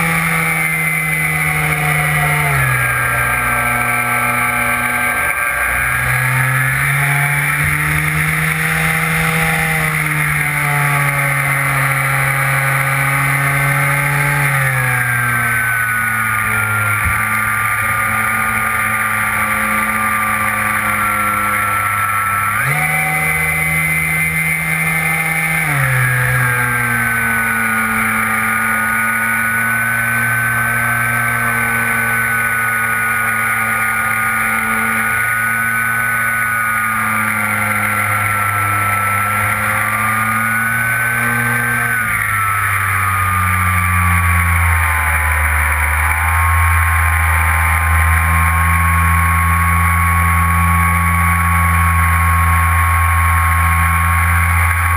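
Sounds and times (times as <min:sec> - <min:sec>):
electric motor and propeller whining: 0:00.0 - 0:54.9.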